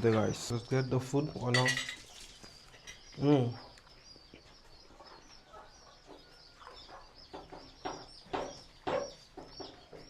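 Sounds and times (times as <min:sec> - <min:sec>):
chickens clucking: 0:00.0 - 0:10.0
small birds chirping: 0:00.0 - 0:10.0.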